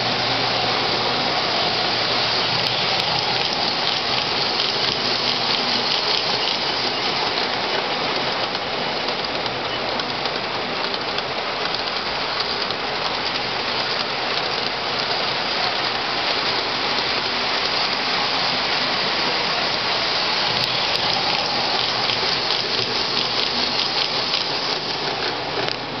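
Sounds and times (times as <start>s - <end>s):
model train wheels rolling on track: 0.0s - 26.0s.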